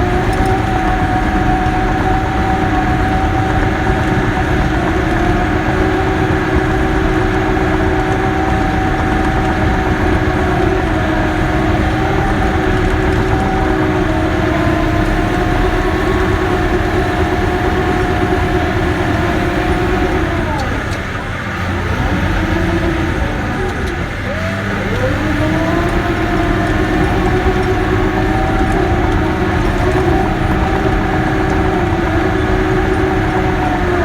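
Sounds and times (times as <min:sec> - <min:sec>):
bulldozer diesel engine whining: 0:00.0 - 0:34.0.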